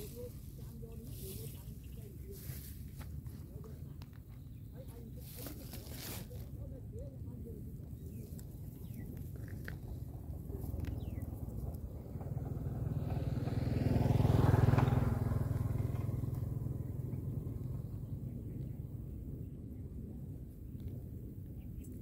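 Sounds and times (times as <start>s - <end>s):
vehicle passing by: 0.0s - 3.8s, 4.8s - 21.4s.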